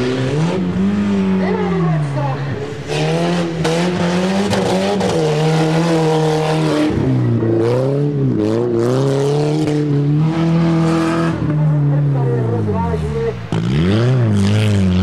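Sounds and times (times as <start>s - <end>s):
racing vehicle engine revving: 0.0s - 15.0s.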